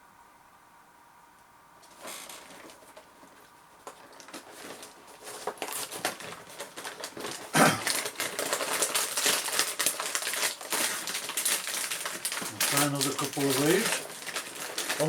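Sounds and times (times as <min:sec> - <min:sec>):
plastic packet crinkling: 0:01.8 - 0:15.0.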